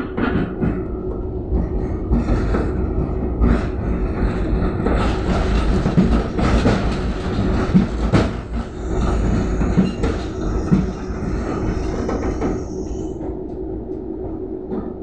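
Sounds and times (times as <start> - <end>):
tram knocks: 0.0 - 13.6
tram wheels rumbling on rails: 0.0 - 15.0.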